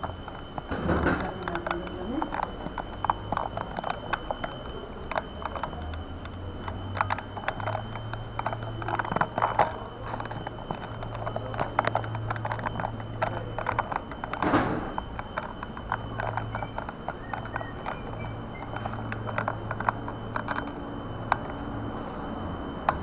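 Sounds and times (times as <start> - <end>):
steady low hum: 0.0 - 23.0
wheeled suitcases rattling: 0.0 - 23.0.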